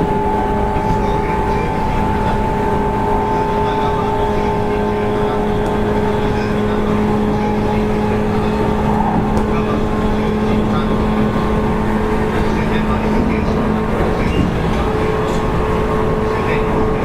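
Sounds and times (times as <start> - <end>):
traction motor hum and whine: 0.0 - 17.0
train rolling rumble: 0.0 - 17.0.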